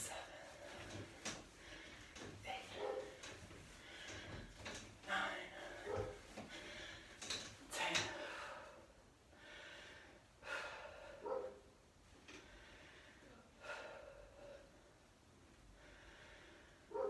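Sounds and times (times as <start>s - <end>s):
woman breathing heavily: 0.0s - 11.7s, 12.3s - 16.9s.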